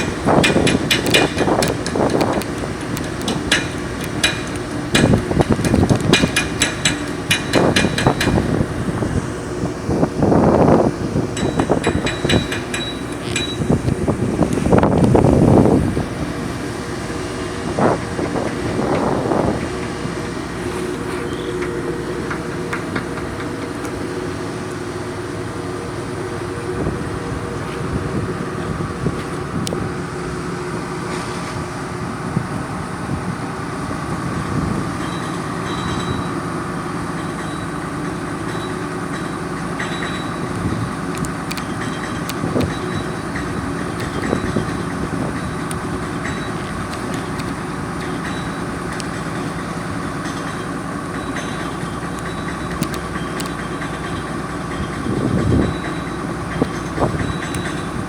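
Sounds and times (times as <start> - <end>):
ferry engine droning: 0.0 - 58.0.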